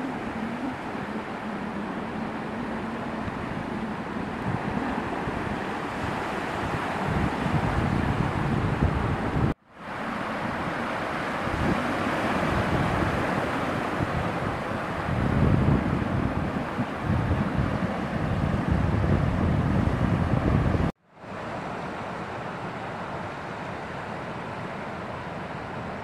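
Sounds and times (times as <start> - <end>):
wind buffeting the microphone: 0.0 - 20.9
ocean waves breaking: 0.0 - 26.0.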